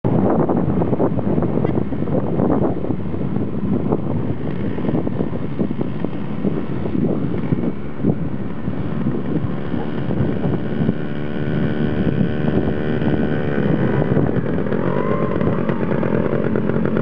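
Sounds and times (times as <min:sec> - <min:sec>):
wind buffeting microphone: 0:00.0 - 0:17.0
distant dirt bike engines buzzing: 0:00.1 - 0:17.0.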